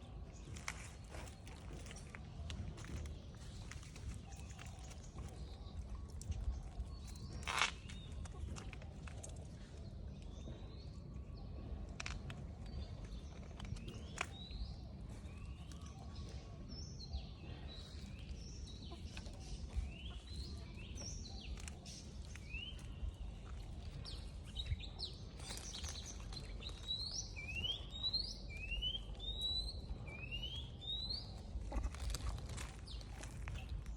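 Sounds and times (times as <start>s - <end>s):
birds chirping: 0.0s - 33.9s
low outdoor rumble: 0.0s - 33.9s.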